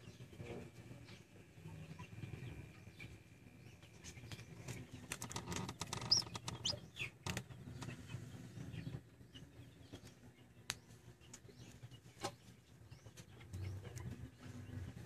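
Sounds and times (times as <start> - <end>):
chick peeping: 0.0 - 15.0.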